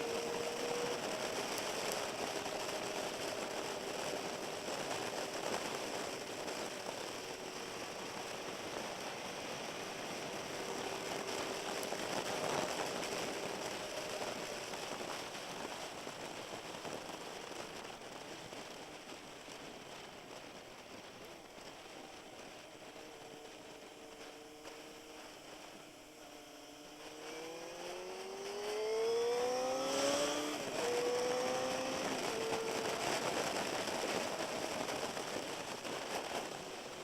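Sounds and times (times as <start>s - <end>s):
motorcycle engine: 0.0s - 37.0s
wind and tyre spray hiss: 0.0s - 37.0s.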